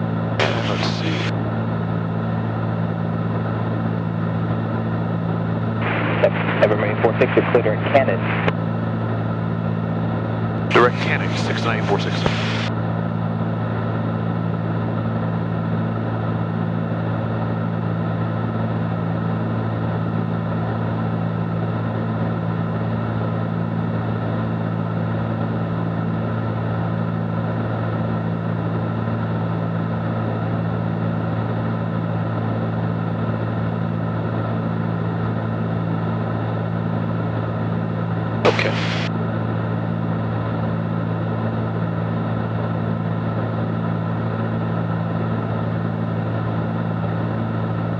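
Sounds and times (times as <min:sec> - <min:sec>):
propeller airplane engines droning: 0:00.0 - 0:47.9.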